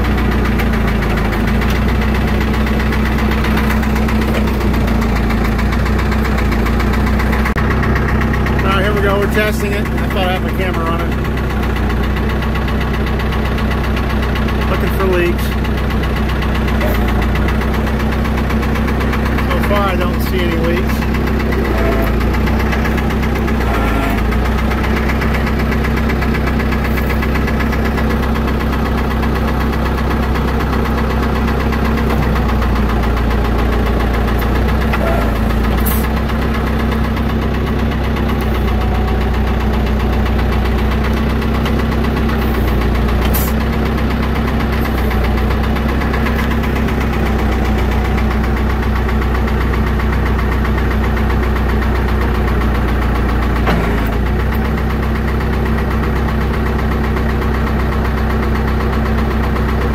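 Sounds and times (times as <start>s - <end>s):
crawler engine idling: 0.0s - 59.9s.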